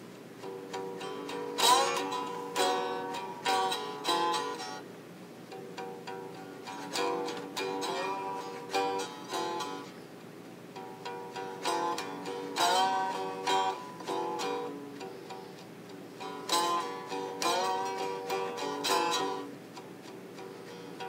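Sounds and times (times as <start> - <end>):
slide string instrument notes: 0.3 - 10.1, 10.7 - 21.0.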